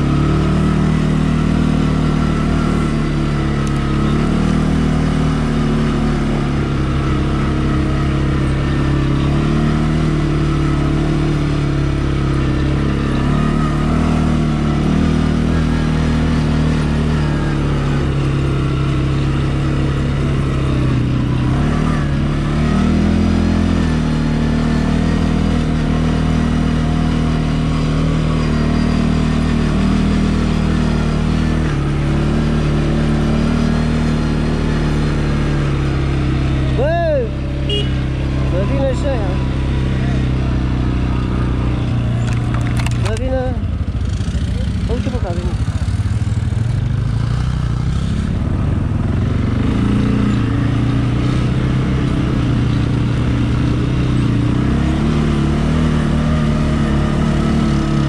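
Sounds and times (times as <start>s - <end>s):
atv engine running under load: 0.0s - 58.0s.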